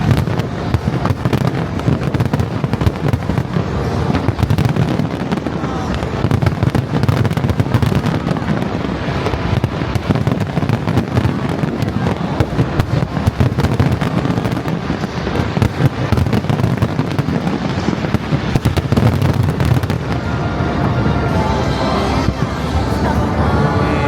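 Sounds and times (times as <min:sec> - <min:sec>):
firework bangs and crackles: 0:00.0 - 0:22.8.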